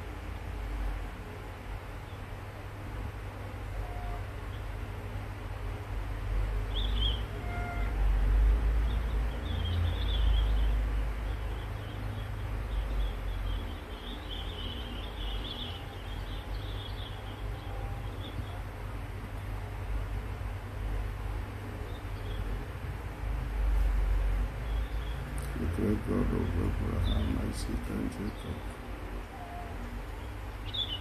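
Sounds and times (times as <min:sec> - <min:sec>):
low unsteady rumble: 0:00.0 - 0:31.0
small birds chirping: 0:01.4 - 0:05.3, 0:05.9 - 0:31.0.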